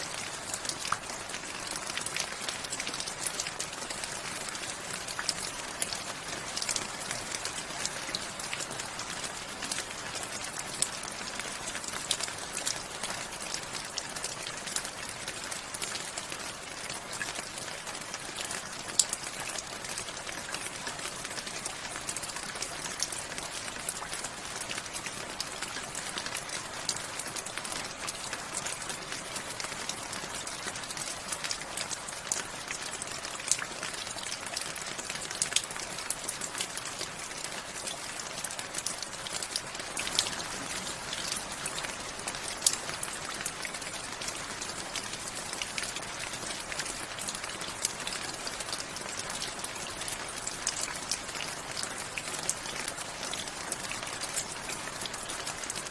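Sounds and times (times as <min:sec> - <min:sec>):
raindrops ticking close by: 0:00.0 - 0:55.9
steady rain hiss: 0:00.0 - 0:55.9.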